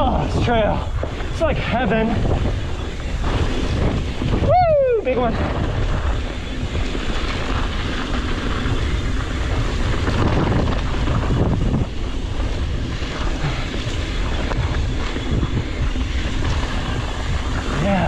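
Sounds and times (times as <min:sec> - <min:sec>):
mountain bike tyre noise and rattling: 0:00.0 - 0:18.0
wind on microphone: 0:00.0 - 0:18.0.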